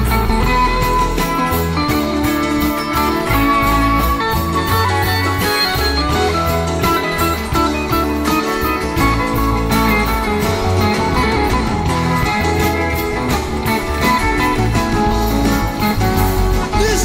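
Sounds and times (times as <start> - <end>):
electric guitar lines: 0.0 - 17.0
rock band playing: 0.0 - 17.0.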